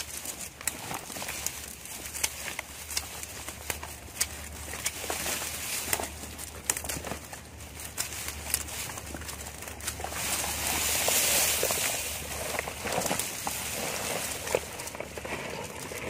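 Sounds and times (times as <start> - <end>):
dry grass rustling and snapping: 0.0 - 16.0.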